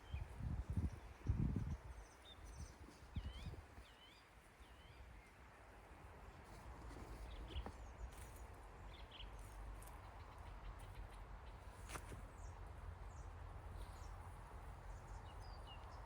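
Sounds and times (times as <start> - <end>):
songbird chirping: 0.0 - 6.0, 7.0 - 16.0.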